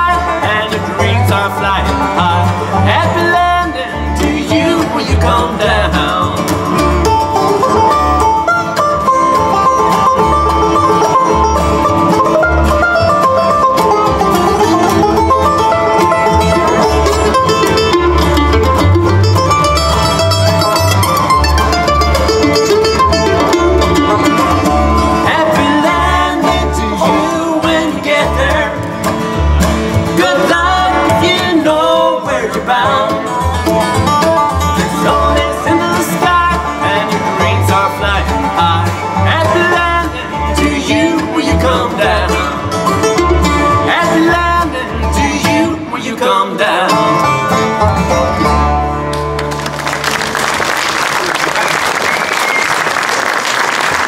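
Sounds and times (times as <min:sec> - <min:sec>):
upright bass plucking: 0:00.0 - 0:50.4
banjo: 0:00.0 - 0:50.7
mandolin: 0:00.0 - 0:50.9
acoustic guitar: 0:00.0 - 0:51.2.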